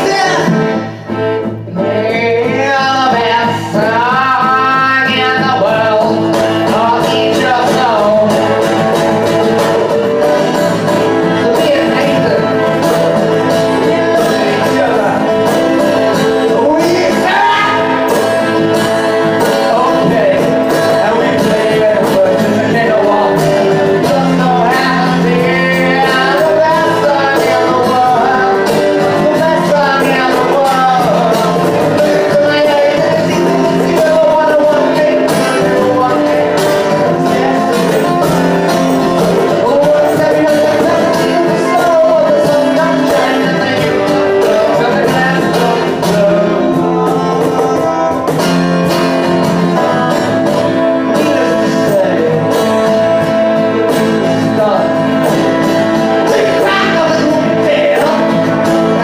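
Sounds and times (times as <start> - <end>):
accordion: 0.0 - 59.0
cajon beat: 0.0 - 59.0
guitars: 0.0 - 59.0
person singing: 0.0 - 59.0.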